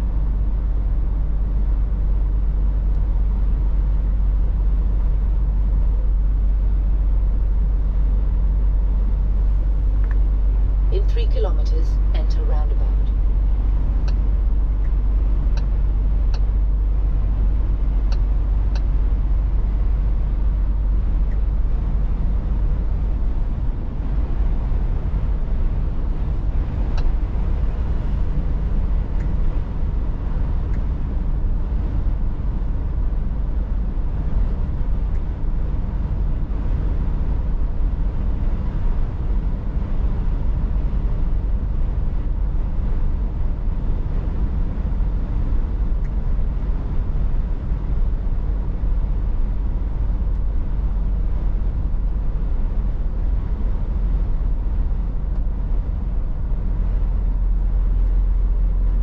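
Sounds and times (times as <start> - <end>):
lorry diesel engine rumble: 0.0 - 59.0.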